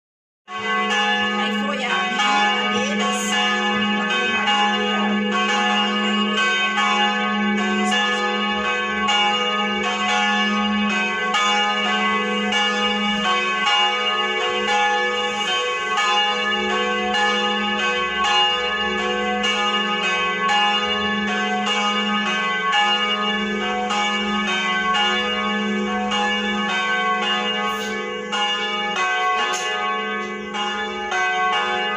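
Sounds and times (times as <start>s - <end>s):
church bells pealing: 0.5s - 31.9s.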